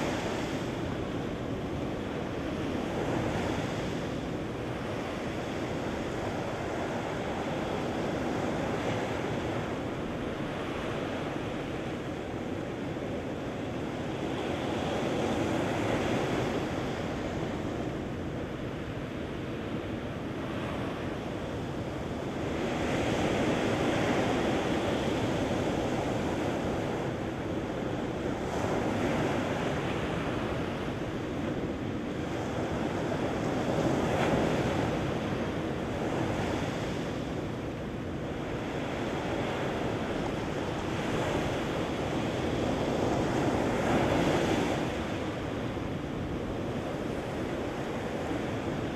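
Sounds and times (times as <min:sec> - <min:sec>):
ocean surf washing up beach: 0:00.0 - 0:48.9.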